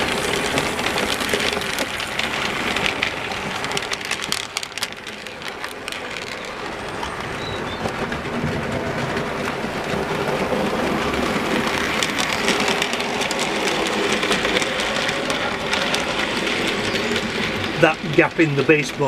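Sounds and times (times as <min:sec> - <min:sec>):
wheels clicking over rail joints: 0:00.0 - 0:19.0.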